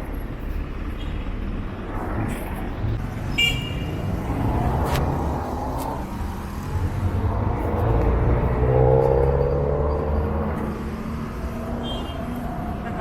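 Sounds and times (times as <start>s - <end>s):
vehicle engine passing: 1.8s - 13.0s.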